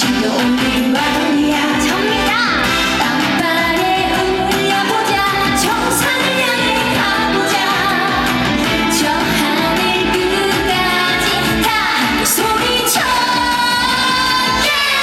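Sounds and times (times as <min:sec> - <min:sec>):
band backing track: 0:00.0 - 0:15.0
woman singing: 0:00.0 - 0:15.0.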